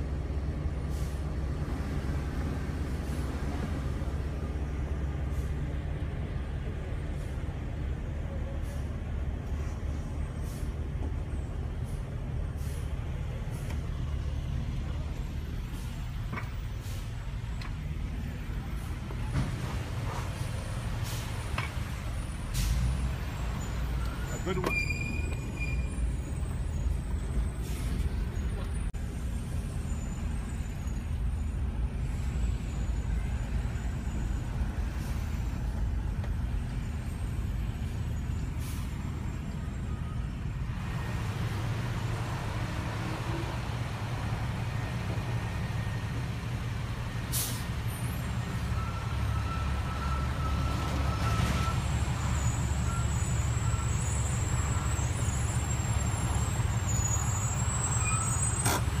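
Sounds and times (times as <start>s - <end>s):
vehicle engines idling in traffic: 0.0s - 59.0s.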